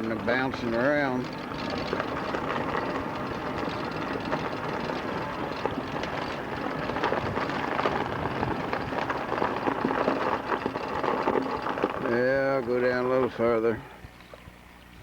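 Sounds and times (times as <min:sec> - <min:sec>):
tires crackling over icy gravel road: 0:00.0 - 0:14.8.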